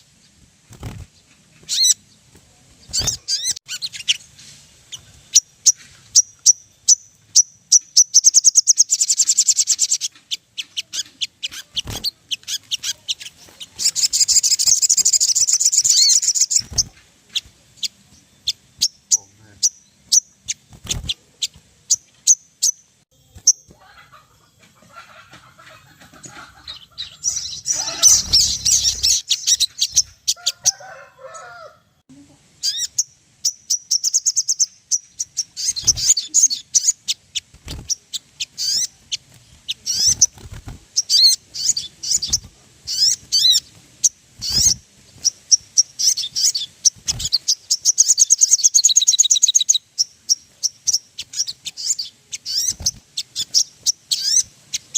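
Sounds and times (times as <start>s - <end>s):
sunbird chirps and trills: 0.0s - 31.6s, 32.2s - 54.9s.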